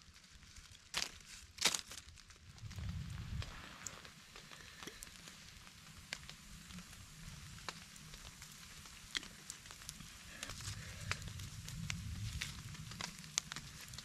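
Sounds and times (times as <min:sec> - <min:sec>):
campfire crackling: 0:00.0 - 0:14.0
fire popping: 0:00.0 - 0:14.0.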